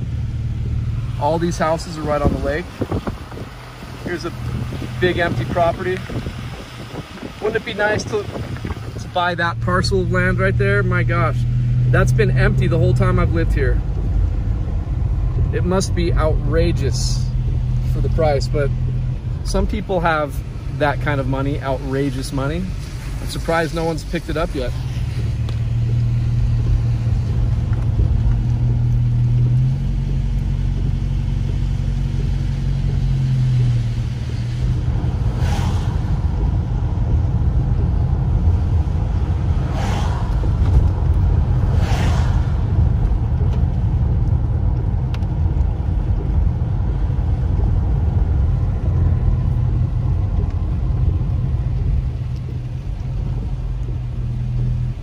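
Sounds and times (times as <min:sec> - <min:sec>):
car driving on wet road: 0:00.0 - 0:55.0.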